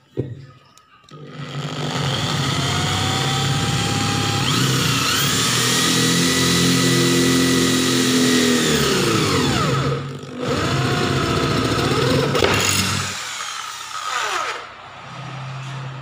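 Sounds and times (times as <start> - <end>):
electric drill whining into steel: 1.1 - 14.7.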